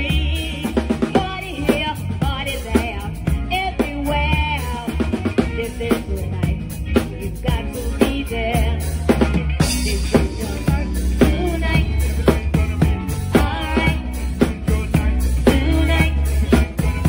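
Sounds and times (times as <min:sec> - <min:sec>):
drum kit groove: 0:00.0 - 0:17.0
electric bass guitar: 0:00.0 - 0:17.0
keyboard: 0:00.0 - 0:17.0.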